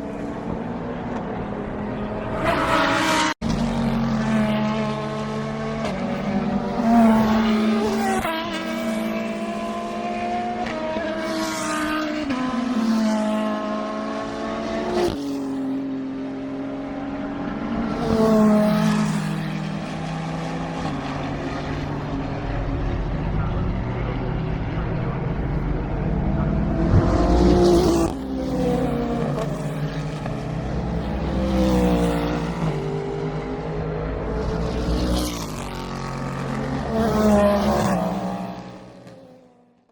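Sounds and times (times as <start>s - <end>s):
race cars passing at speed: 0.0s - 39.9s.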